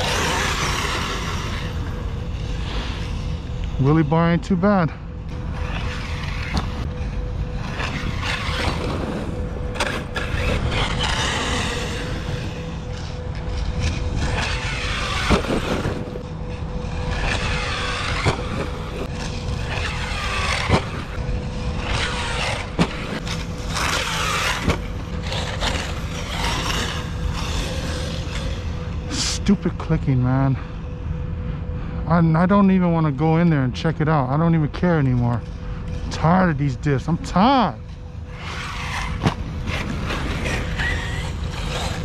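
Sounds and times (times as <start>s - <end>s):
electric motor whine: 0.0s - 42.0s.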